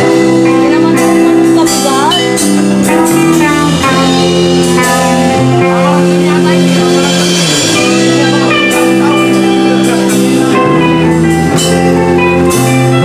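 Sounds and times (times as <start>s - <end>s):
cymbal strikes: 0.0s - 12.9s
live rock band playing: 0.0s - 13.0s
sliding guitar notes: 0.0s - 13.0s.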